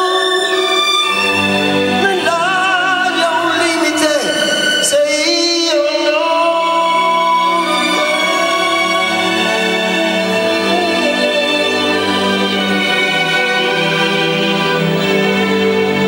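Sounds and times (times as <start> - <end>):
man singing with vibrato: 0.0 - 14.7
instrumental backing music: 0.0 - 16.0.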